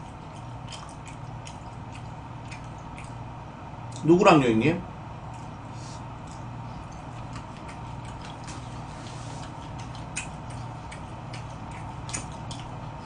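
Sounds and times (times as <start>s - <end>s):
chewing clicks and smacks: 0.0s - 4.1s, 5.2s - 5.6s, 6.2s - 13.0s
steady background hum: 0.0s - 13.0s.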